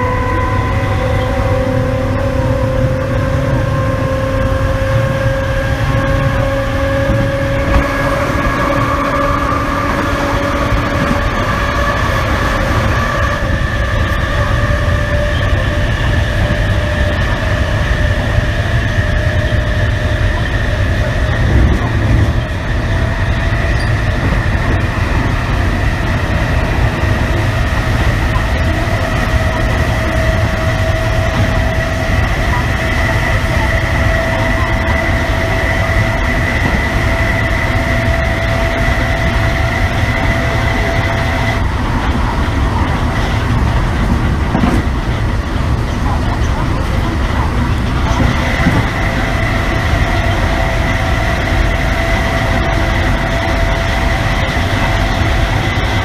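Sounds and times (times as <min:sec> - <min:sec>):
traction motor whine: 0:00.0 - 0:56.0
train wheels rumbling on track: 0:00.0 - 0:56.0.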